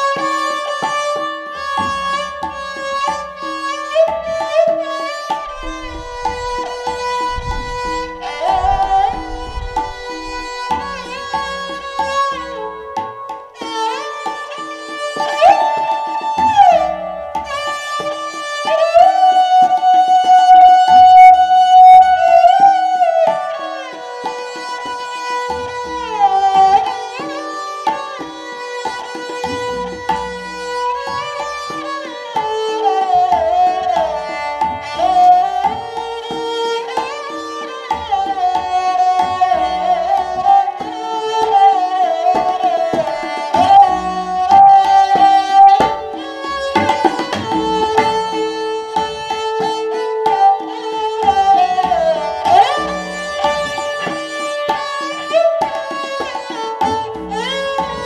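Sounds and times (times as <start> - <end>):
sarangi melody: 0.0 - 58.0
tabla rhythm: 0.0 - 58.0.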